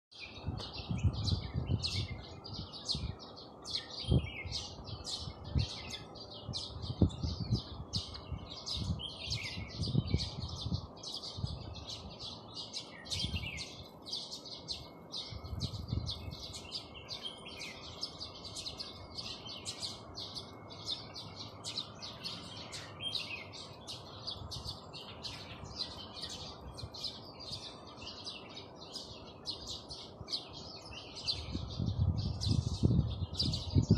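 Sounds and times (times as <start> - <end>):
flock of small birds chirping: 0.1 - 33.9.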